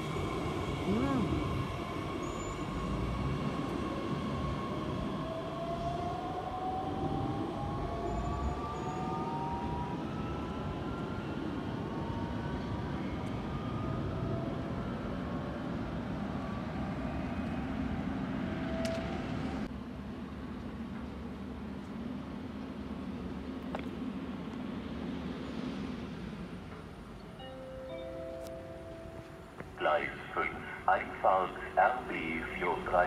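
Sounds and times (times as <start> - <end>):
wheels rumbling on rail: 0.0 - 33.0.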